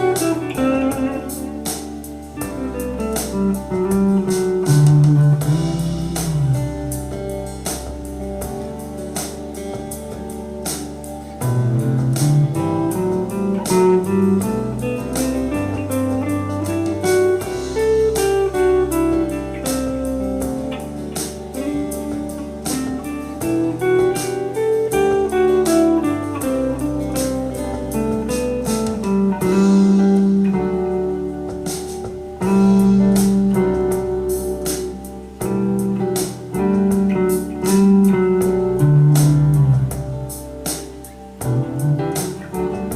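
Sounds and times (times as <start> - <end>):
backing track with drums and bass: 0.0 - 42.9.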